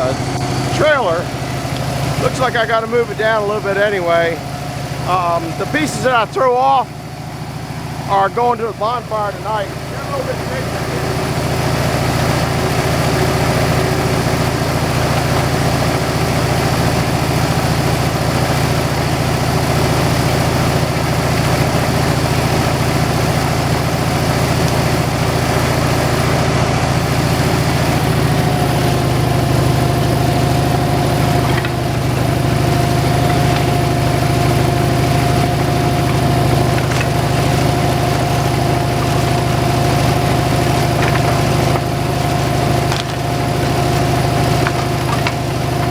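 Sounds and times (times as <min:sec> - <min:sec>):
machine engine running: 0:00.0 - 0:45.9
steady whine: 0:00.0 - 0:45.9.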